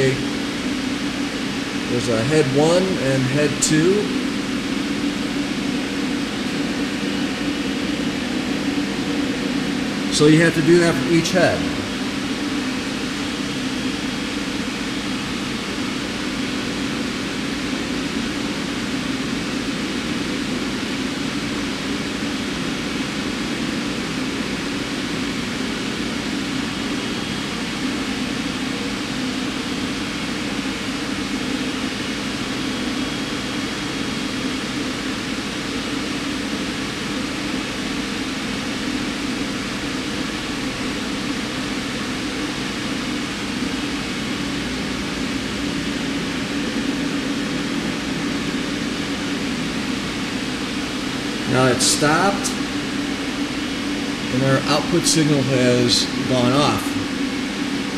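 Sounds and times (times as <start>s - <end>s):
machine hum and hiss: 0.0s - 57.9s.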